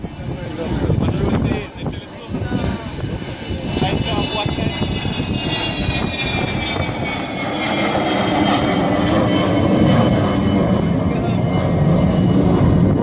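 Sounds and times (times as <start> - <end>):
airplane passing close by: 0.0 - 13.0.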